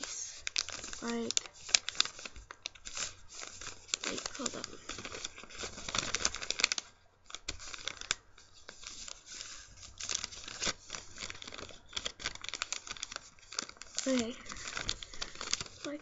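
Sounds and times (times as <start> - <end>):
paper folding and crinkling: 0.0 - 16.0.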